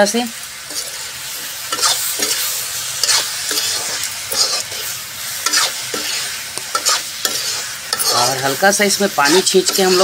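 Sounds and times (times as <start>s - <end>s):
oil sizzling: 0.0s - 10.0s
metal spatula scraping pan: 0.6s - 10.0s.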